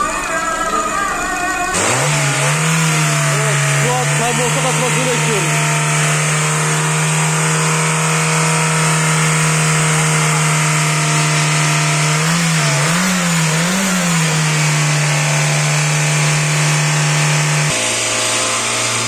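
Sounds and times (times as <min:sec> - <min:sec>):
car engine at raised revs: 0:01.7 - 0:19.0.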